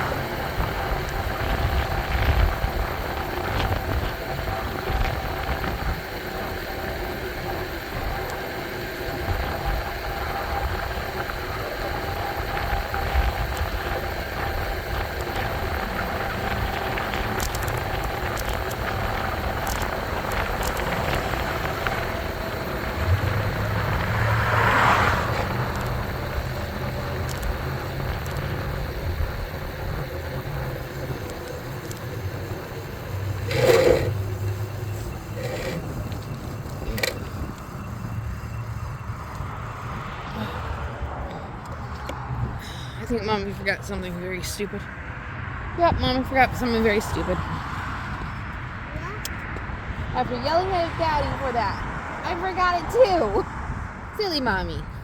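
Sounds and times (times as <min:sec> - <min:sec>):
faint steady whine: 0:00.0 - 0:55.0
vehicle passing: 0:00.0 - 0:55.0
wind and road noise: 0:00.0 - 0:55.0.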